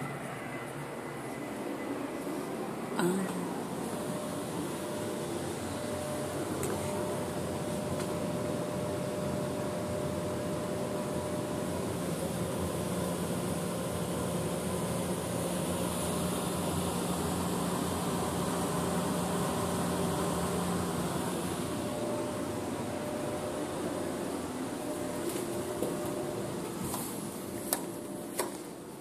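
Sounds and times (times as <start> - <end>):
indoor hum and hiss: 0.0 - 29.0.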